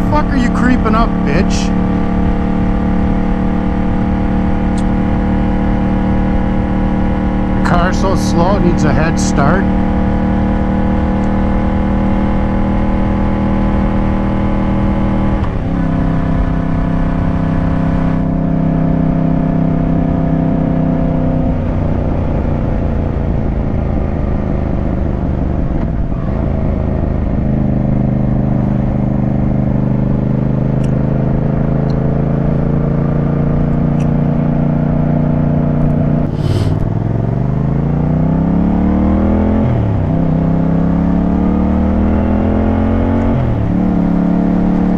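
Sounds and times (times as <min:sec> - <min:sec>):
motorcycle engine: 0:00.0 - 0:26.3, 0:26.9 - 0:44.9.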